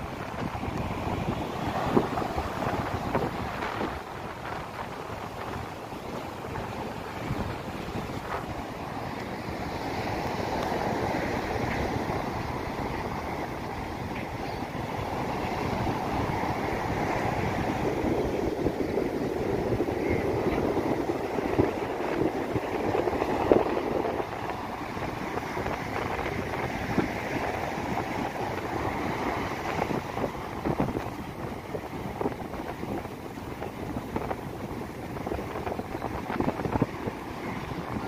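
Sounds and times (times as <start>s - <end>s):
surf breaking on shore: 0.0s - 38.0s
wind buffeting microphone: 0.0s - 38.0s.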